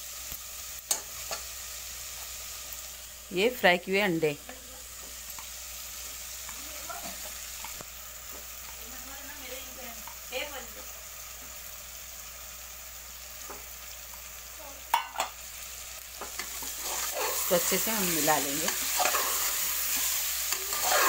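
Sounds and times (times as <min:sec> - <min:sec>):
food sizzling: 0:00.0 - 0:21.0.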